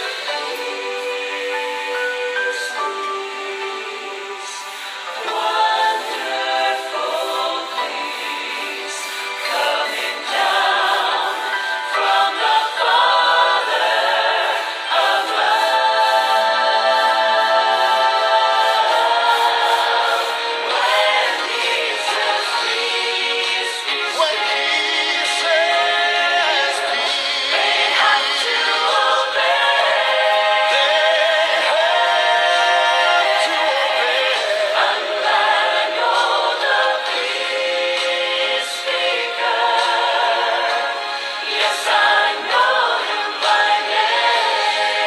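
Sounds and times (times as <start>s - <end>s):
choir singing gospel song: 0.0s - 45.0s.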